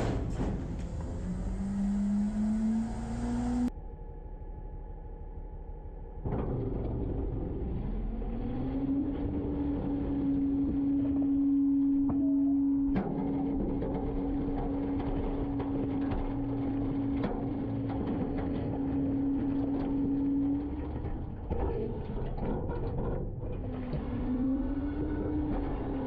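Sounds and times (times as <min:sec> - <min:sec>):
garbage truck engine running: 0:00.0 - 0:03.7, 0:06.2 - 0:26.0
hydraulic packer whine: 0:00.0 - 0:26.0.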